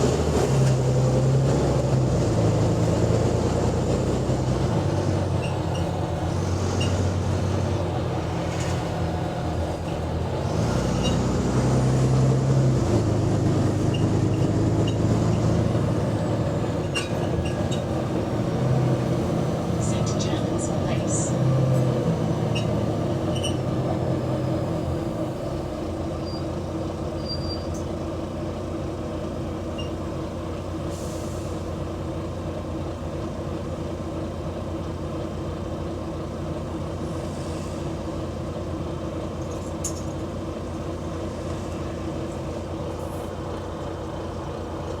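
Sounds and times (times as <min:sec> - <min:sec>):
diesel bus engine rumbling: 0:00.0 - 0:45.0.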